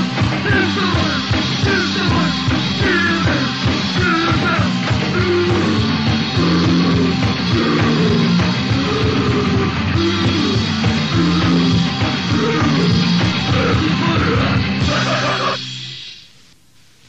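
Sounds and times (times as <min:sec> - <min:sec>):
crust punk band playing: 0:00.0 - 0:16.1.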